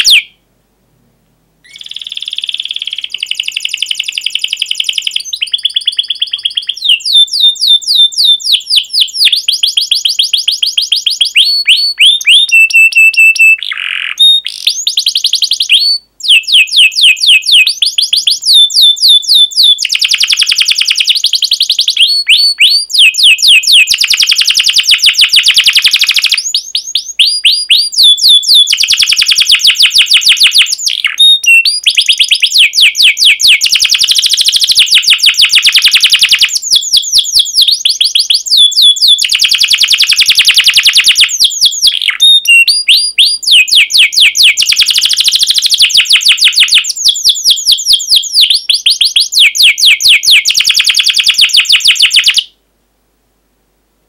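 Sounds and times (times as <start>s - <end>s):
canary singing trills: 0.0s - 0.4s, 1.6s - 52.6s.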